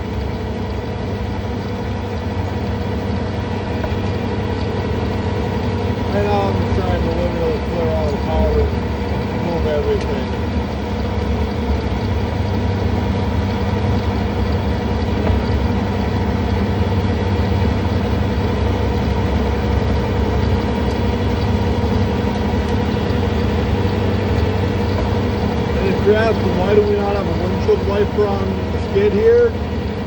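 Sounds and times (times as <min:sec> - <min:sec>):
diesel engine running: 0:00.0 - 0:30.0
snowblower running: 0:00.0 - 0:30.0.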